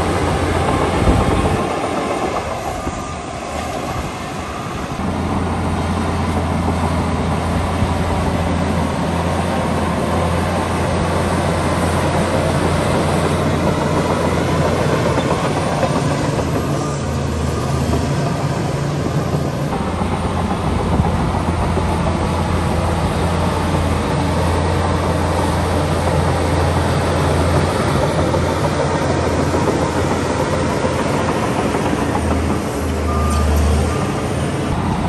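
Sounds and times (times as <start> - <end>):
bulldozer diesel engine droning: 0.0 - 35.0.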